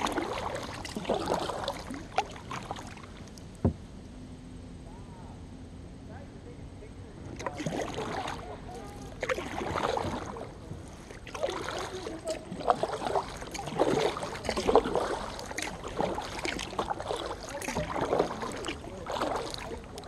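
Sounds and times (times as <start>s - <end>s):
kayak paddle strokes in water: 0.0s - 3.7s, 7.3s - 20.0s.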